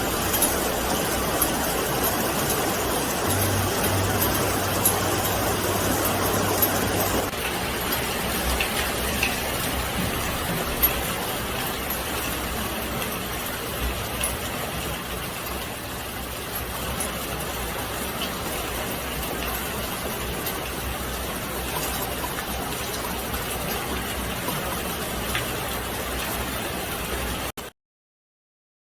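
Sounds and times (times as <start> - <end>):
steady rain falling: 0.0 - 27.6.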